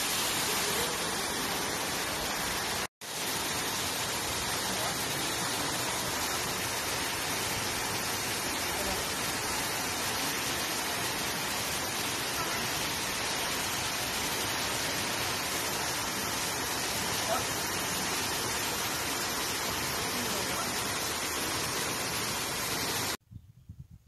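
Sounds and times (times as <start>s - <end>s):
waterfall rushing: 0.0s - 23.2s.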